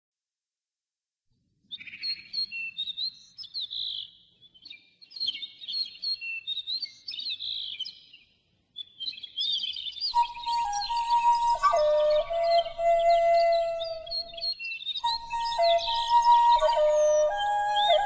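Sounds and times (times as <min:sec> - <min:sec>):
songbird chirping: 0:01.6 - 0:18.0.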